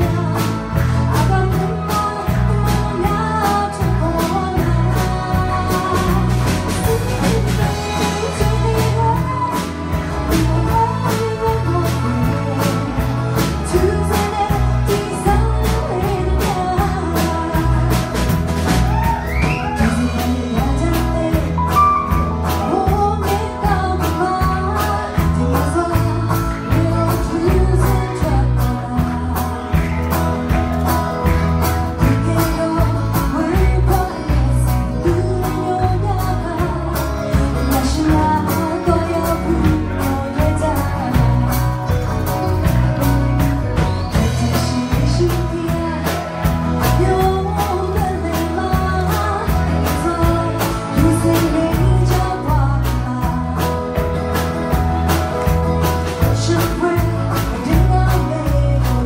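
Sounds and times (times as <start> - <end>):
woman singing into microphone: 0.0 - 30.1, 31.8 - 42.1, 43.5 - 54.3, 56.0 - 59.0
acoustic guitar: 0.0 - 59.0
drums: 0.0 - 59.0
electric guitar: 0.0 - 59.0.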